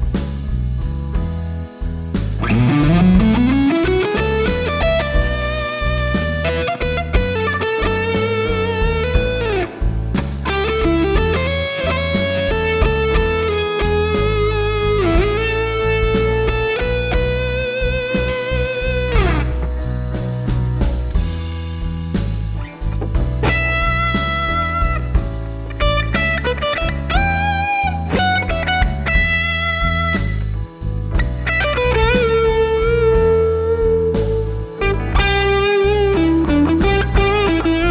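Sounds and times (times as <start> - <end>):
blues backing track bass and drums: 0.0 - 37.9
overdriven electric guitar blues lead: 2.3 - 21.2, 22.5 - 37.9.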